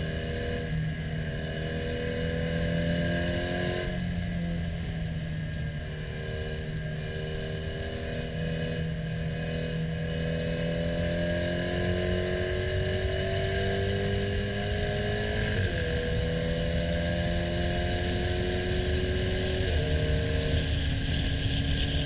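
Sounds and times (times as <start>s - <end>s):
car engine at full throttle: 0.0s - 22.0s.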